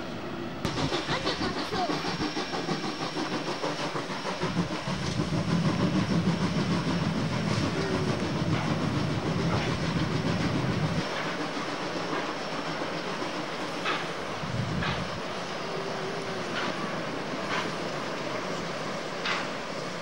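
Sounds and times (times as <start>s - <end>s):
rail clicks: 0.6s - 20.0s
train wheels rumbling on bridge: 0.6s - 20.0s.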